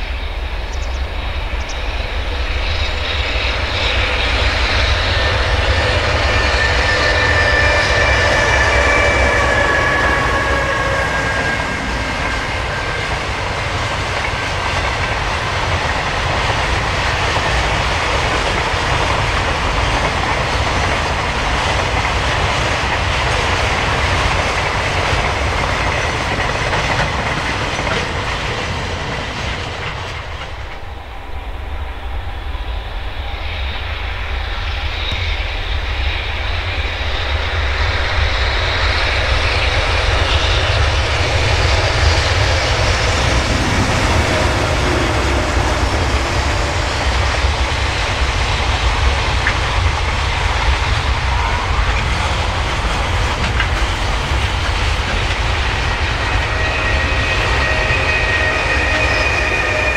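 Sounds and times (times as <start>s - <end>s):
electric locomotive rumble: 0.0s - 59.9s.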